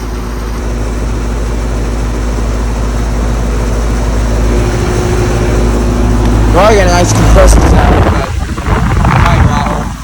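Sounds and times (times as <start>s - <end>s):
compressor humming: 0.0s - 10.0s
condenser fan whooshing: 0.0s - 10.0s.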